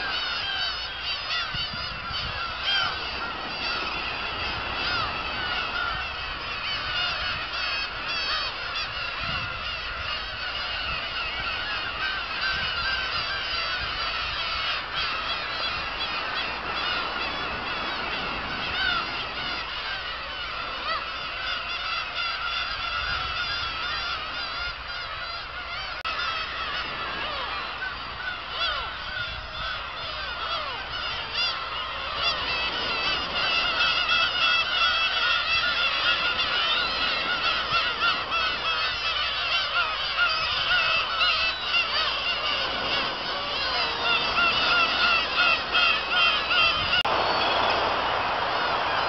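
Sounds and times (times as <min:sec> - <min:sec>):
gulls mewing cries: 0:00.0 - 0:49.0.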